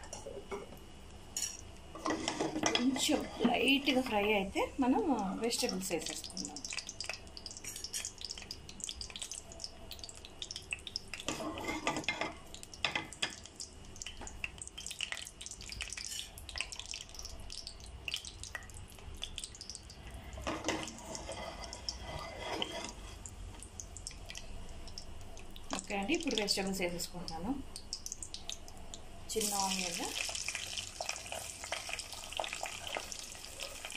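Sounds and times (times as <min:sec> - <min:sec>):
spices sizzling in hot oil: 0:01.2 - 0:33.9.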